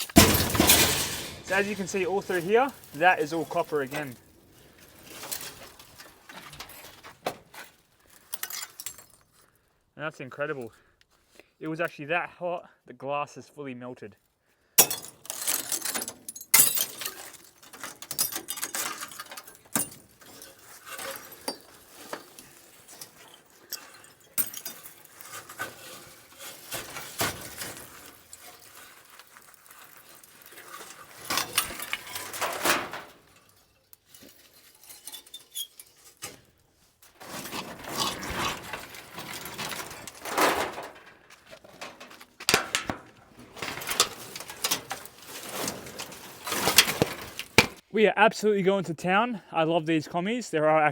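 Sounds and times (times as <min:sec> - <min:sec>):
metal and glass debris clinking: 0:00.0 - 0:07.2, 0:08.0 - 0:09.5, 0:14.8 - 0:47.8.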